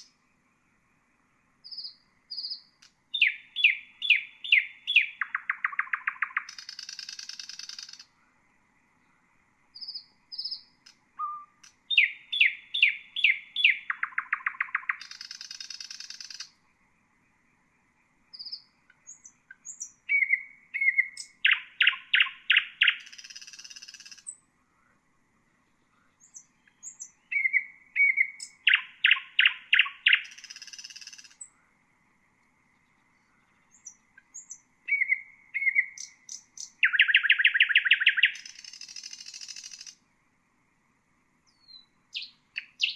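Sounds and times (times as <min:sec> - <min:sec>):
nightingale singing: 0:00.0 - 0:24.5, 0:25.6 - 0:31.7, 0:32.4 - 0:40.1, 0:41.4 - 0:42.9.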